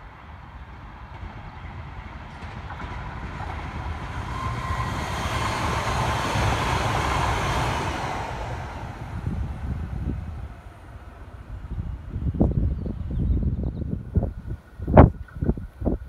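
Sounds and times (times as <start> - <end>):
light rail train passing: 0.0 - 16.0.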